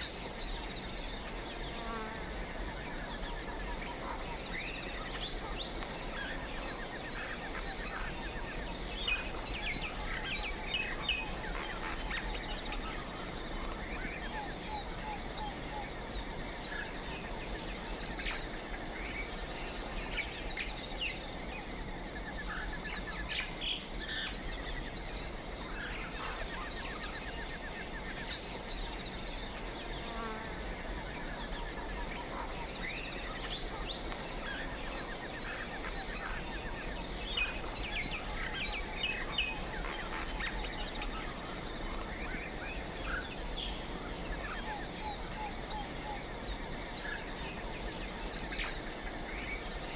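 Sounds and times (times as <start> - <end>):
insects trilling and buzzing: 0.0 - 49.9
small birds chirping: 0.0 - 49.9
steady background hiss: 0.0 - 49.9.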